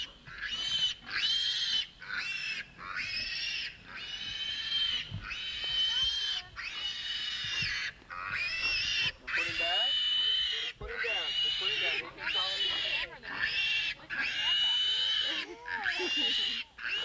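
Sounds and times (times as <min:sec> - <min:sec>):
pigs squealing: 0:00.0 - 0:17.0.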